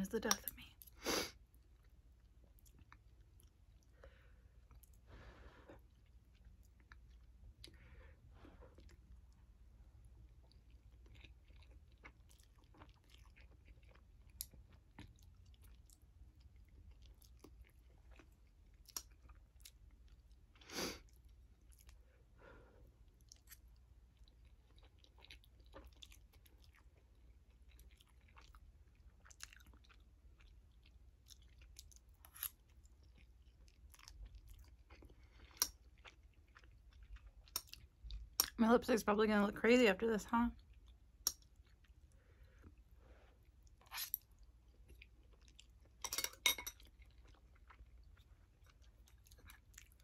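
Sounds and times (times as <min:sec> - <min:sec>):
chewing and slurping noodles: 0:01.5 - 0:38.6, 0:46.6 - 0:50.0.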